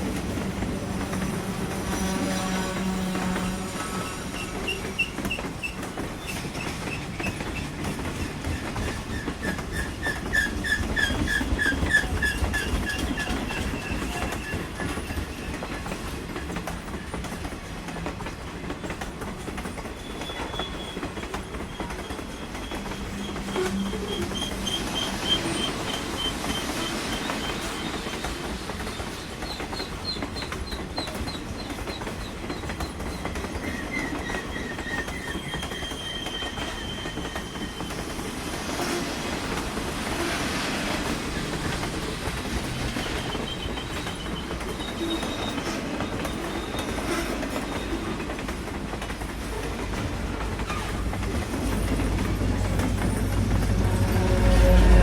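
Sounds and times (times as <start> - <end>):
train rumbling on rails: 0.0 - 55.0
wheels clickety-clack: 0.0 - 55.0.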